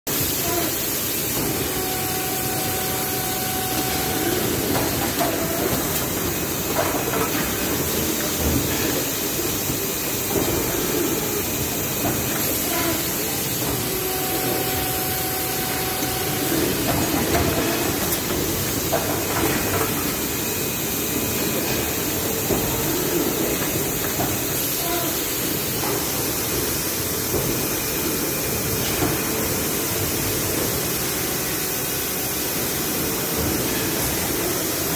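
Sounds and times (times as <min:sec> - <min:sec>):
machinery hissing: 0:00.1 - 0:34.9.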